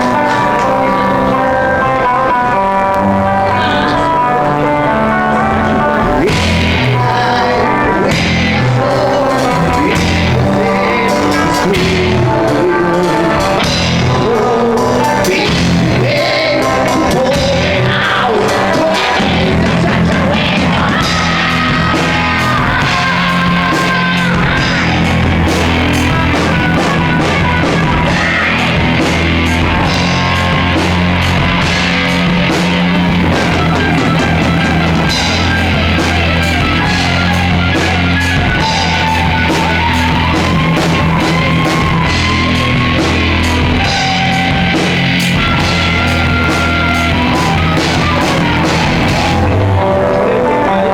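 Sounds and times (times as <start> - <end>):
person singing: 0.0 - 32.0, 32.9 - 50.9
bass: 0.0 - 50.9
drums: 0.0 - 50.9
guitar: 0.0 - 50.9.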